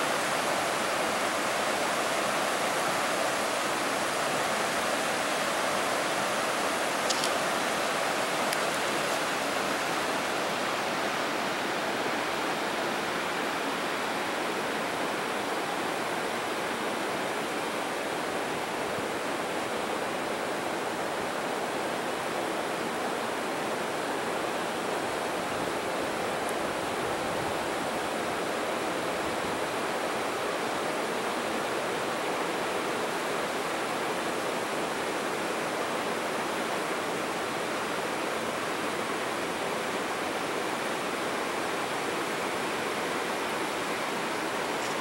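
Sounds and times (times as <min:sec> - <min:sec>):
water rushing over boulders: 0:00.0 - 0:45.0.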